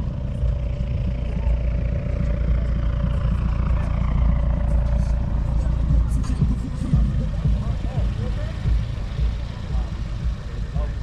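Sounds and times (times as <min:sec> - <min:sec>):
car engine idling: 0:00.0 - 0:11.0
faint steady whine: 0:00.0 - 0:11.0.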